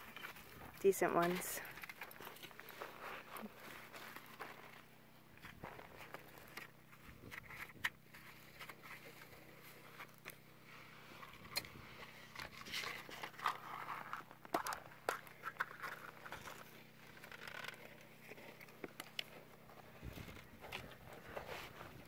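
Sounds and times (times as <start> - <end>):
gritty scraping of small stones: 0.0 - 22.0.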